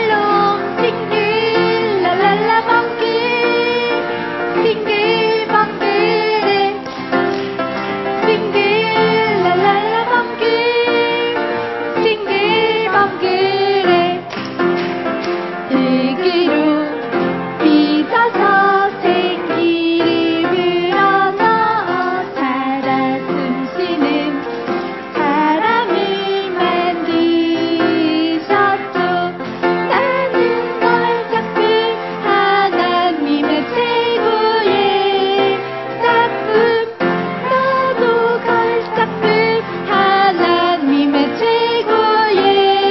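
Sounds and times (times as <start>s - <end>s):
woman and children singing: 0.0s - 7.0s, 8.2s - 14.3s, 15.7s - 17.0s, 17.6s - 24.4s, 25.2s - 42.9s
instrumental backing: 0.0s - 42.9s.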